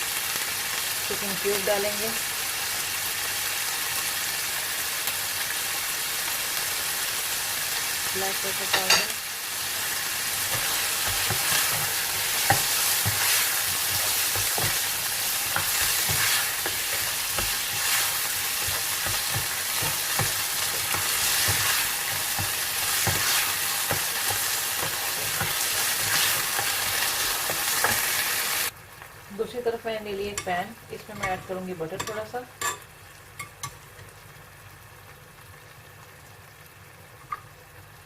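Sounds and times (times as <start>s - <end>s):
chicken sizzling in a pan: 0.0s - 38.0s.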